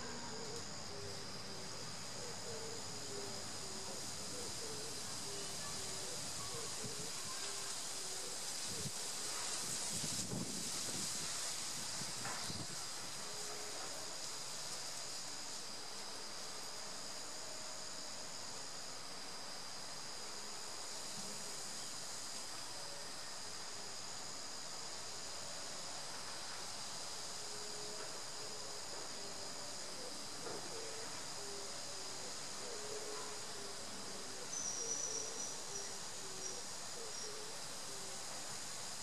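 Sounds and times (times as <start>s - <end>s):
high-pitched insect chorus: 0.0s - 39.0s
higher insect trill: 0.0s - 39.0s.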